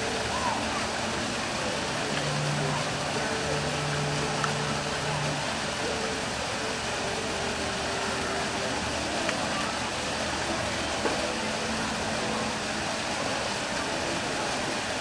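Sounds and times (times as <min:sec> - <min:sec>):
faint distant voices: 0:00.0 - 0:15.0
outdoor background hiss: 0:00.0 - 0:15.0.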